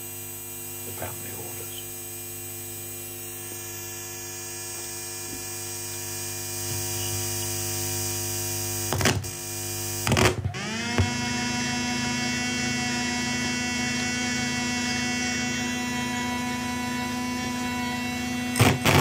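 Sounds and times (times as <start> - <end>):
electronic buzzing hum: 0.0 - 19.0.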